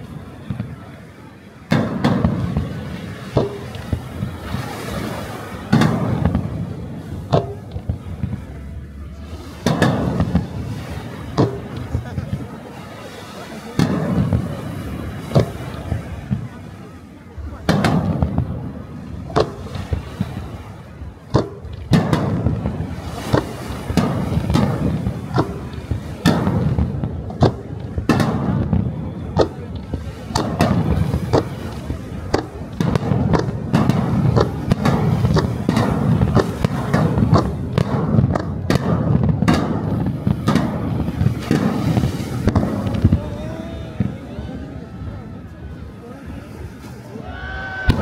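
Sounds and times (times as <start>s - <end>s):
continuous low rumble: 0.0s - 48.0s
fireworks launching and bursting: 0.0s - 48.0s.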